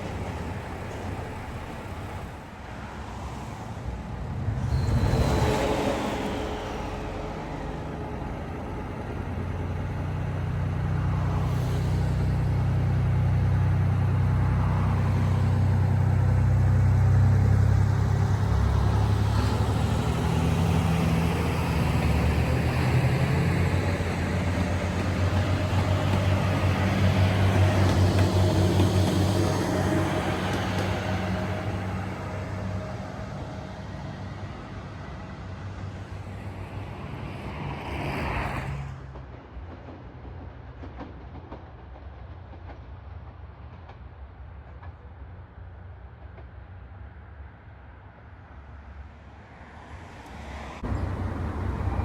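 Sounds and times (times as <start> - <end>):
diesel railcar engine rumbling: 0.0 - 52.0.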